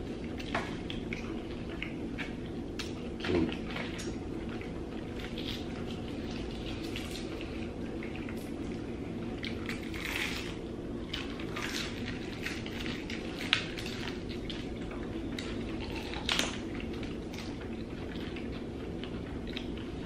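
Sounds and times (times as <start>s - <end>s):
wet tearing and chewing: 0.1s - 20.0s.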